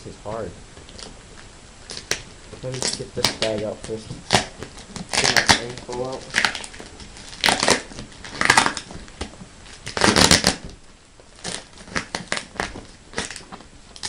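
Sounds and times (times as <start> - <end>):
plastic bag and paper crinkling: 2.0 - 14.0.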